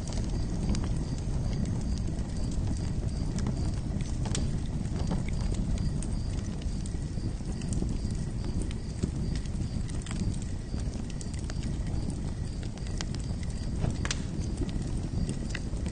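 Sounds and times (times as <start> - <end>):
campfire flames rumbling: 0.0 - 15.9
fire crackles and pops: 0.0 - 15.9.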